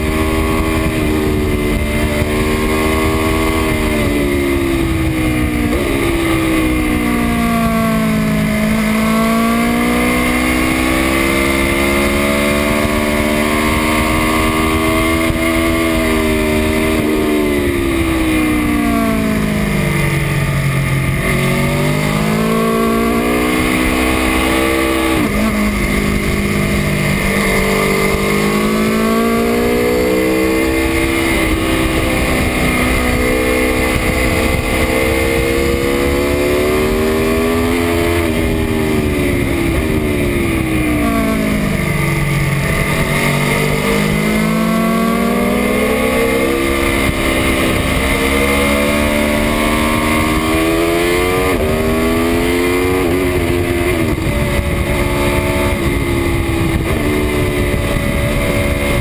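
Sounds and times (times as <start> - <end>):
motorcycle engine revving: 0.0 - 59.0
wind rushing: 10.3 - 59.0.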